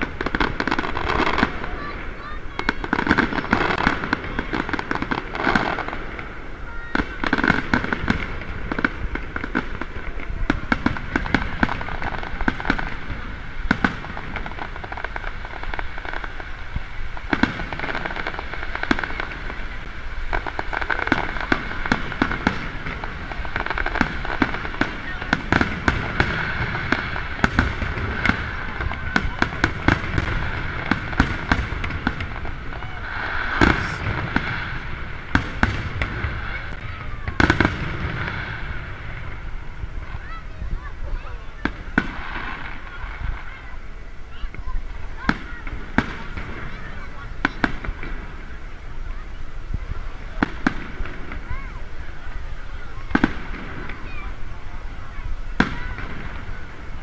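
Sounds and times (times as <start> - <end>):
crowd voices: 0.0 - 57.0
fireworks bursts and crackle: 0.0 - 57.0.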